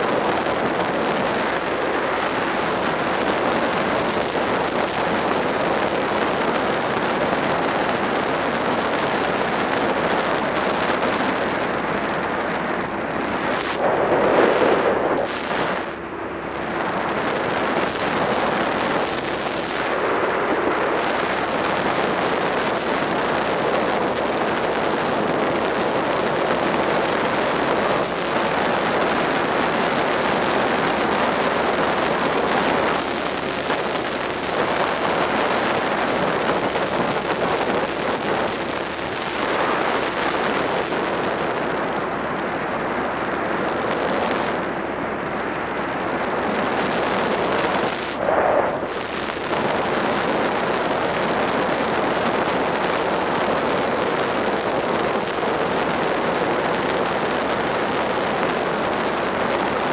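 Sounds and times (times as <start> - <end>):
motorcycle engine drone: 0.0 - 59.9
wind and road noise: 0.0 - 59.9.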